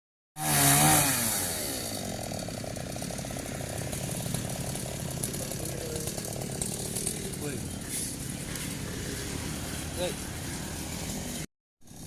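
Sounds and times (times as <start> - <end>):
chainsaw running: 0.4 - 12.0.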